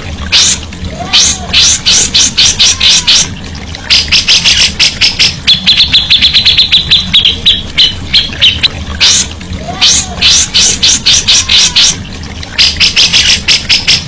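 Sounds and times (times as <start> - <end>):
songbird harsh rapid notes: 1.2 - 14.0.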